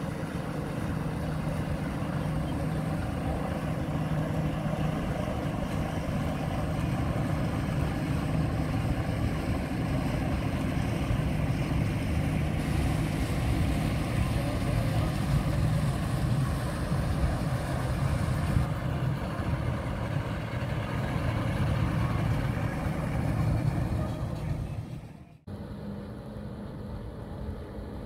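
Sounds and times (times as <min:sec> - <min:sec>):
distant boat engine hum: 0:00.0 - 0:28.0
outboard motor droning: 0:00.0 - 0:28.0.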